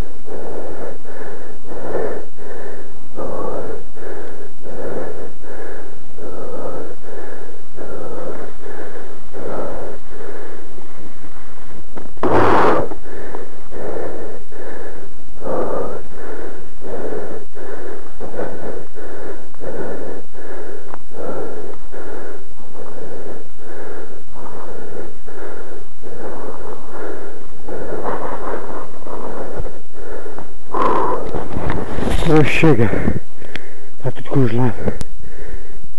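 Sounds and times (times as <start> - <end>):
person panting heavily: 0.0 - 35.9.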